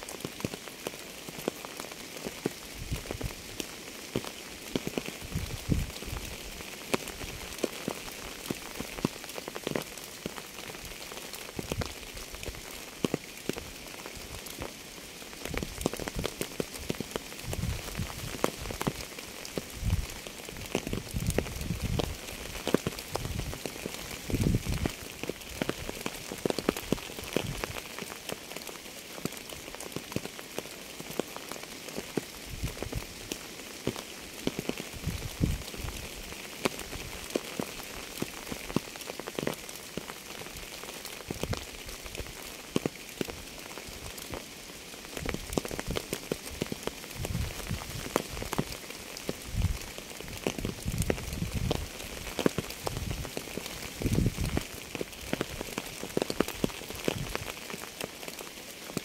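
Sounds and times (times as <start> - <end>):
steady rain hiss: 0.0 - 59.0
raindrops tapping: 0.1 - 59.0
heavy raindrops thudding: 2.2 - 28.4, 31.1 - 58.4.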